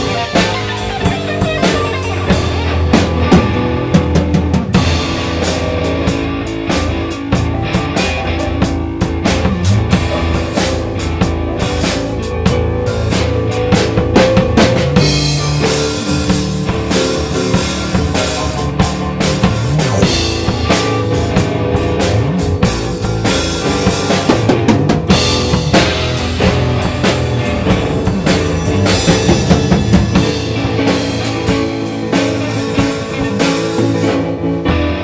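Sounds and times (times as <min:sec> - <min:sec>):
drum kit steady beat: 0:00.0 - 0:35.0
guitar: 0:00.0 - 0:35.0
keyboard: 0:00.0 - 0:35.0.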